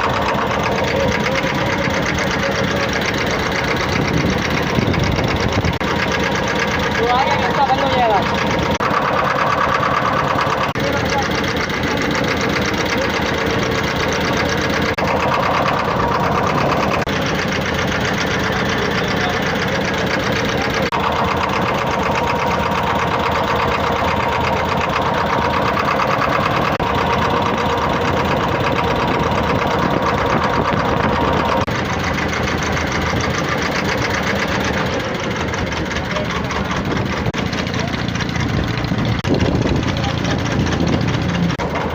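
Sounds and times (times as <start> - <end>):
boat diesel engine chugging: 0.0 - 41.9.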